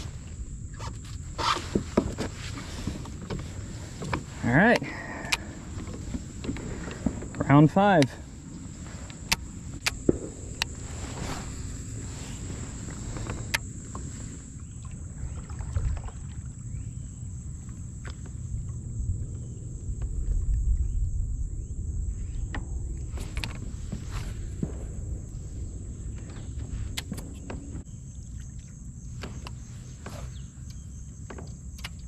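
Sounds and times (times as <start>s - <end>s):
low rumble: 0.0s - 31.2s.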